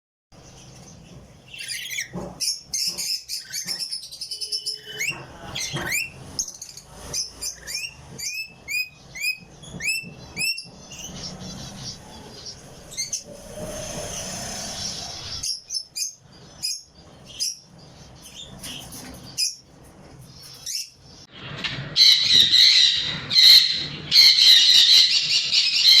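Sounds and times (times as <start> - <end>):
parrots chirping: 0.4 - 19.7, 20.3 - 26.0.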